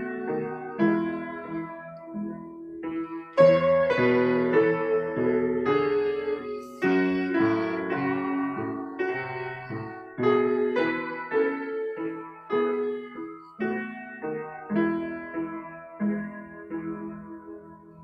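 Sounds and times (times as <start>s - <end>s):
piano melody over chords: 0.0s - 18.0s.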